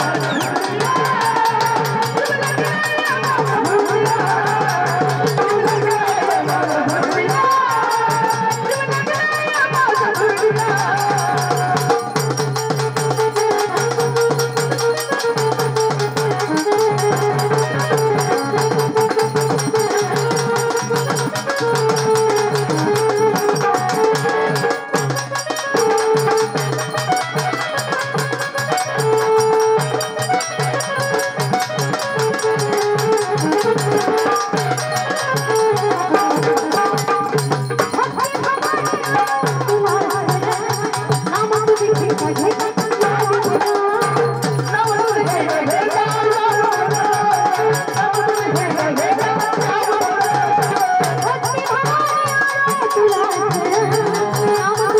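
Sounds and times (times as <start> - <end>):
hand drum percussion: 0.0 - 54.9.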